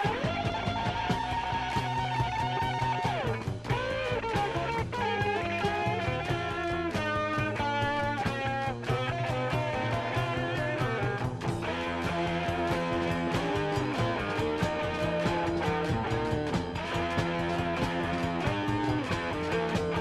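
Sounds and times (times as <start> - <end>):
bass guitar: 0.0 - 20.0
lead electric guitar: 0.0 - 20.0
steady drum beat: 0.0 - 20.0.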